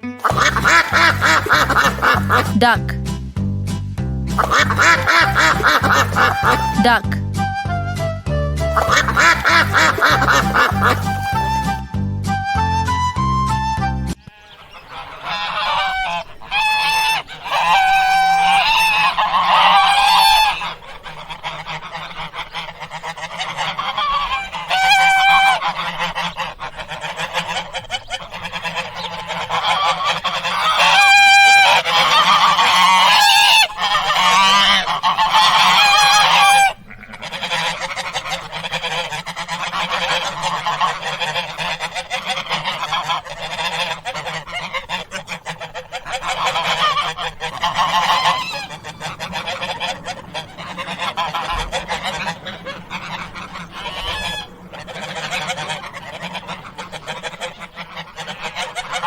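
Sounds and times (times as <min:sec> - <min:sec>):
waterfowl honking: 0:00.0 - 0:02.8, 0:04.3 - 0:07.2, 0:08.6 - 0:11.8, 0:14.1 - 0:59.0.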